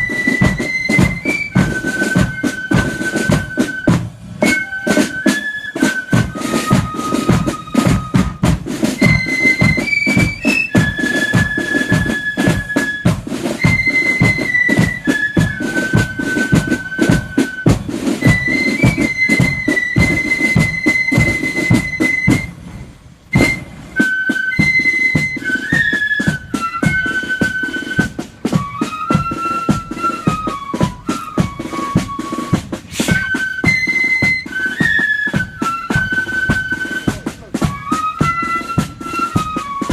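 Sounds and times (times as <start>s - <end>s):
flutes playing high melody: 0.0s - 39.9s
steady drum beats: 0.0s - 39.9s.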